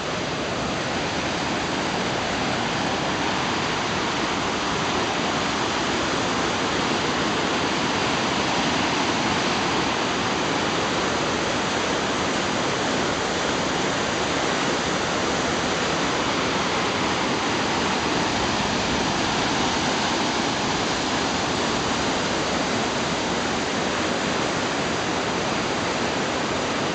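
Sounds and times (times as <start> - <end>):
whitewater rushing: 0.0 - 26.9.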